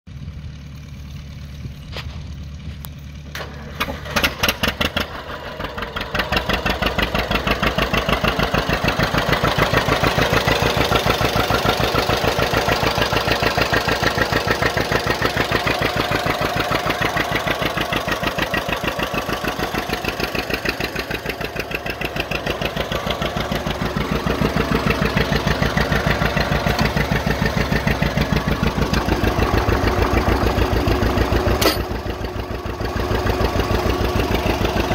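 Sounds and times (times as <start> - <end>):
tractor engine popping exhaust: 0.1 - 34.9.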